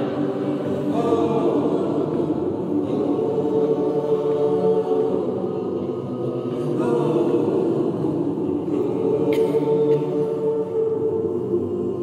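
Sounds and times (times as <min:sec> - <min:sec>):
mixed choir singing in harmony: 0:00.0 - 0:12.0.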